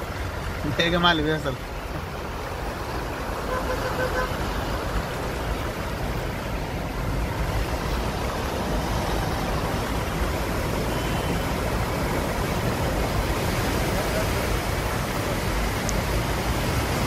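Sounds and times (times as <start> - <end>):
traffic on wet road: 0.0 - 17.0.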